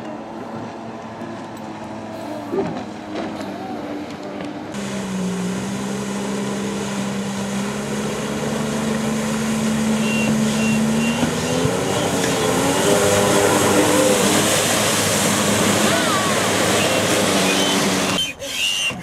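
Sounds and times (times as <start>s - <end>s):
jet ski engine running: 0.0s - 19.0s.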